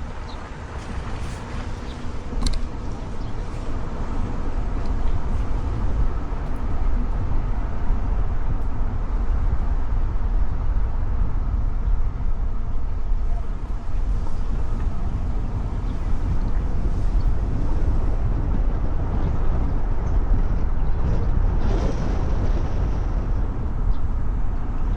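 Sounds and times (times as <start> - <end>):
road and tyre rumble: 0.0 - 24.9.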